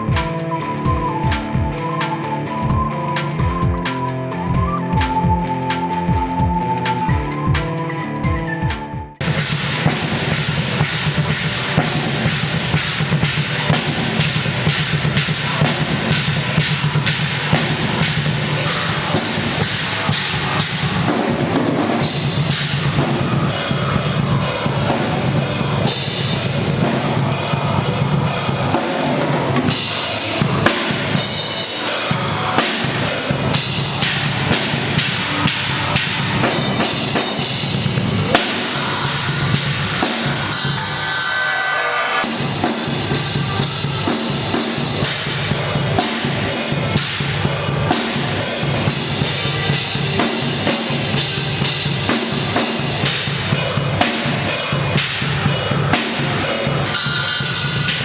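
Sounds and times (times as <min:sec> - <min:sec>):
drum kit pounding fast beat: 0:00.0 - 0:41.4, 0:42.0 - 0:58.0
heavy metal music: 0:00.0 - 0:58.0.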